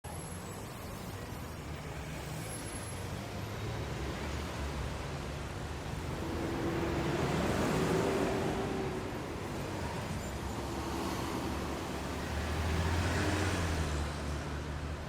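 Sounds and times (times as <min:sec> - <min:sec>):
street traffic rumbling: 0:00.1 - 0:15.0.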